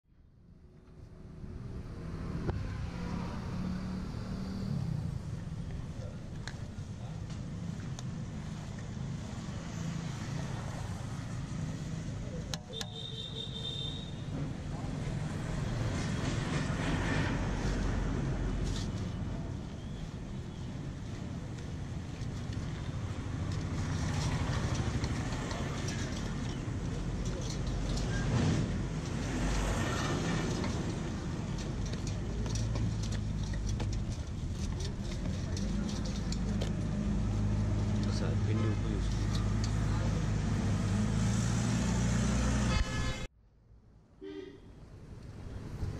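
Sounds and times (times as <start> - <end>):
low street rumble: 0.1 - 45.9.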